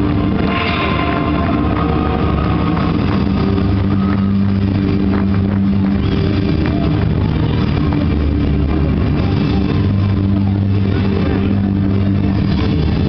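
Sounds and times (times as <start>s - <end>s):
loud distorted music over loudspeakers: 0.0s - 13.0s.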